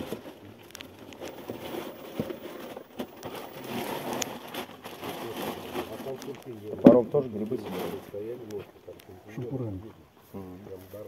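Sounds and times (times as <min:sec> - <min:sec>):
rustling and handling noises: 0:00.0 - 0:11.0.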